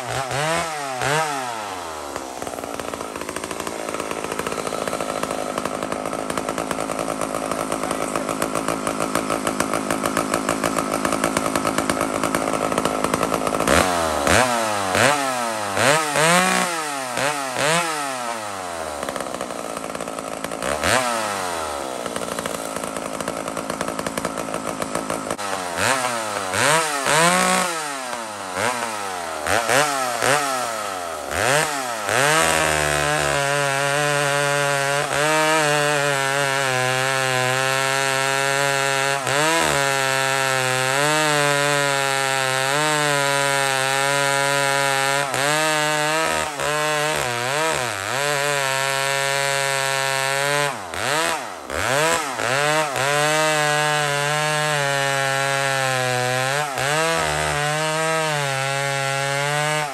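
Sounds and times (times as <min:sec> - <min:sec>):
chainsaw cutting into log: 0:00.0 - 0:59.9
chainsaw revving: 0:00.0 - 0:59.9.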